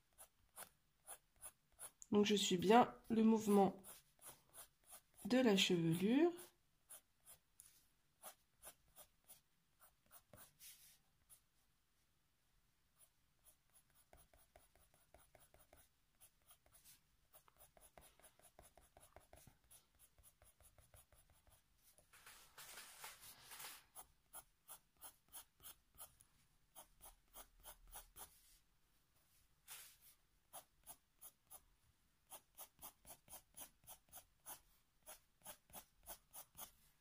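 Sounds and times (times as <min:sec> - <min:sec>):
pencil scratching on paper: 0:00.1 - 0:11.5, 0:13.0 - 0:28.6, 0:29.7 - 0:31.6, 0:32.2 - 0:36.9.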